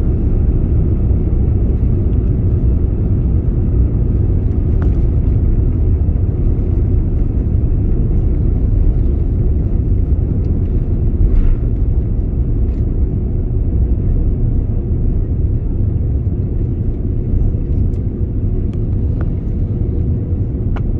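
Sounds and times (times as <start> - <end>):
airliner cabin engine rumble: 0.0 - 20.9.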